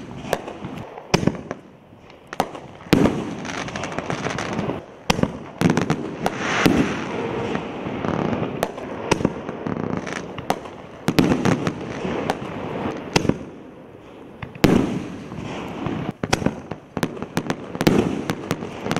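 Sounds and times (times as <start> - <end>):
firework shells bursting: 0.0 - 18.9.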